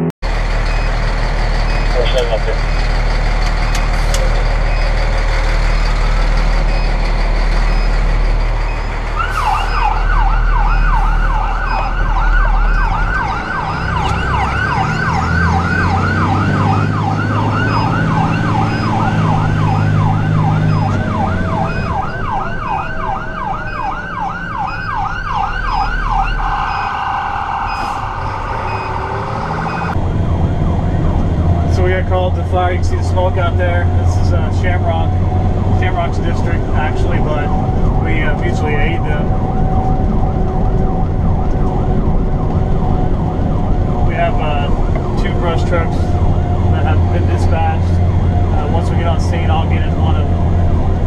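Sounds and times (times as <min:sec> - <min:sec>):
fire truck siren yelp: 0:00.0 - 0:51.0
truck engine running: 0:00.0 - 0:51.0.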